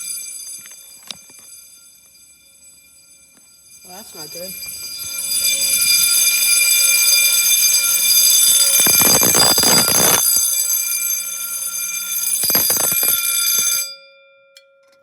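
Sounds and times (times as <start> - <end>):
fire alarm horns and bells: 0.0 - 15.0.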